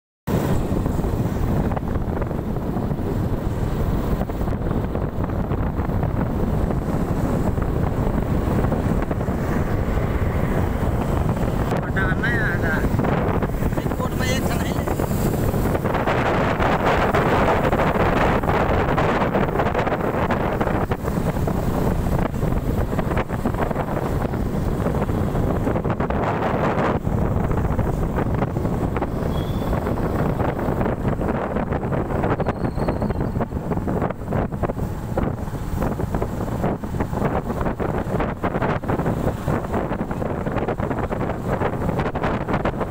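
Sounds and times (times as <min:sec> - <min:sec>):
wind buffeting on microphone: 0:00.3 - 0:42.9.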